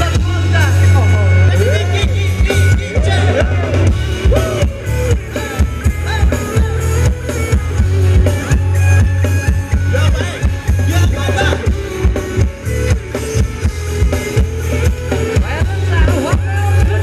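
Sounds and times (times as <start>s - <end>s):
live band playing dance music: 0.0s - 17.0s
steady drum beat: 0.0s - 17.0s.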